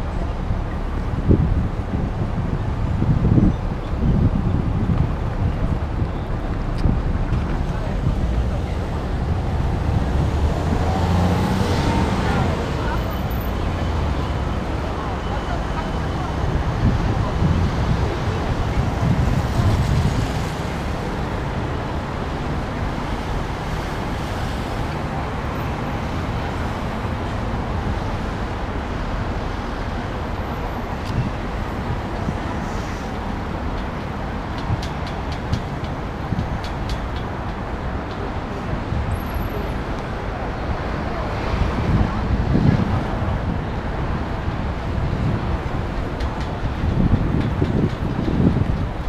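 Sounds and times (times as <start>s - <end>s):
city road traffic: 0.0s - 49.0s.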